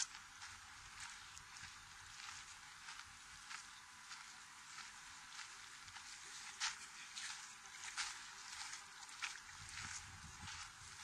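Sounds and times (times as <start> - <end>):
footsteps on gravel: 0.0 - 11.0
steady outdoor hiss: 0.0 - 11.0.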